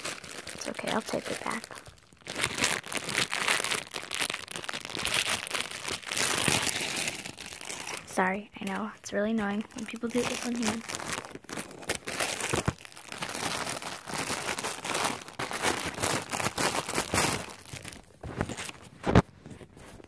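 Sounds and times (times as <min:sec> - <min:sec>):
plastic bag crinkling and tearing: 0:00.0 - 0:20.0.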